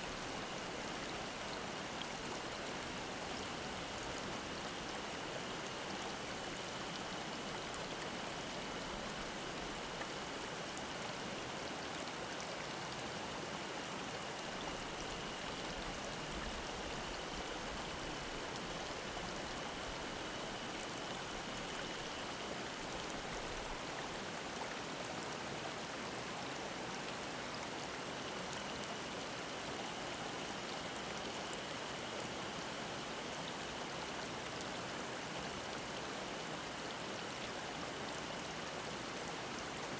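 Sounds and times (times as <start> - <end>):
mountain stream babbling: 0.0 - 39.9.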